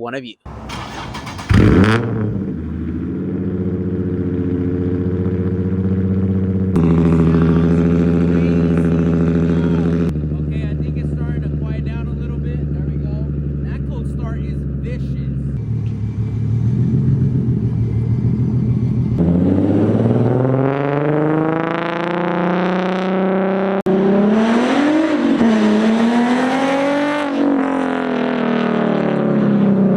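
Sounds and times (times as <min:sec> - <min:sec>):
car engine idling and revving: 0:00.5 - 0:29.9.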